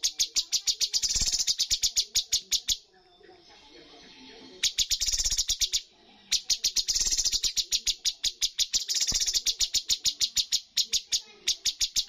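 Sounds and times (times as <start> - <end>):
bird singing sharp repeated notes: 0.0 - 2.9, 4.6 - 12.0.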